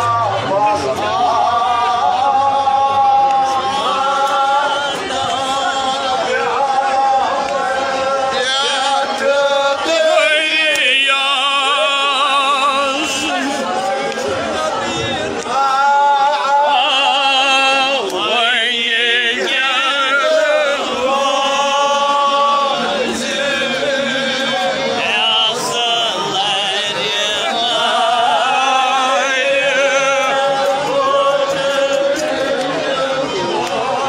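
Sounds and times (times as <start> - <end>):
man singing through a megaphone: 0.0 - 34.0
men singing a lament: 0.0 - 34.0.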